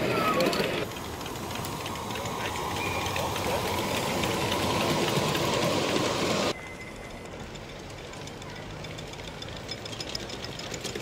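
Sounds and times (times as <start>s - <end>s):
model steam locomotive rattling: 0.0s - 11.0s.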